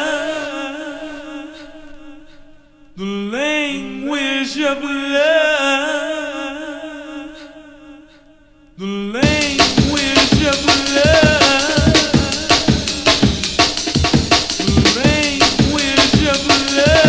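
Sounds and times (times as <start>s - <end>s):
chanted vocal line: 0.0s - 17.0s.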